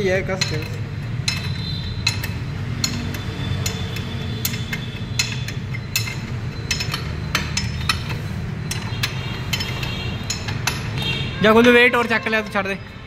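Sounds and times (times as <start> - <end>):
spanner clinking on bolts: 0.0 - 12.3.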